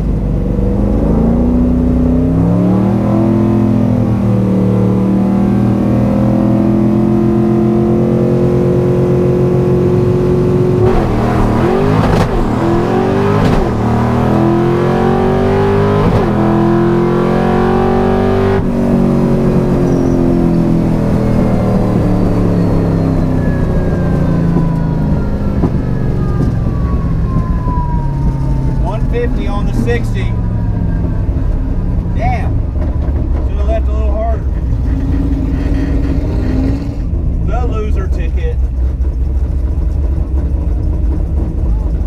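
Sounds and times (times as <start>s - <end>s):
car engine revving through gears: 0.0s - 42.0s.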